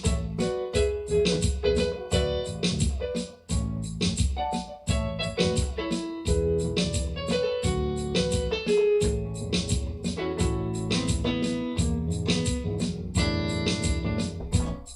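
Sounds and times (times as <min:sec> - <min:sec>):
electronic keyboard piano chords: 0:00.0 - 0:14.9.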